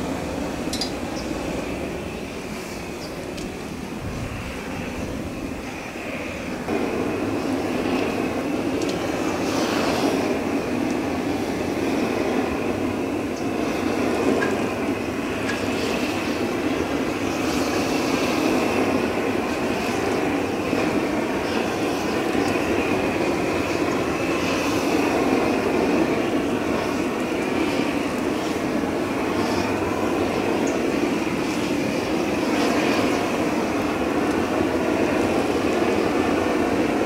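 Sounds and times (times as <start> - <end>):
blowtorch flame rushing: 0.0 - 37.0.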